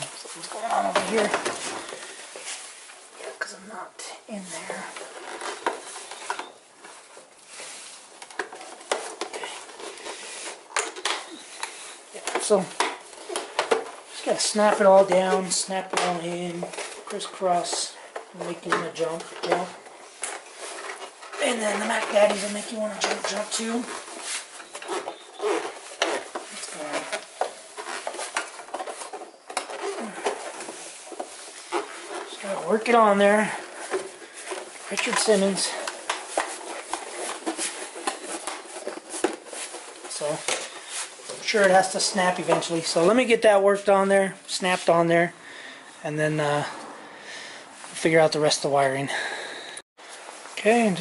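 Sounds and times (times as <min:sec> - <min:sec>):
plastic rubbing and scraping: 0:00.0 - 0:45.3.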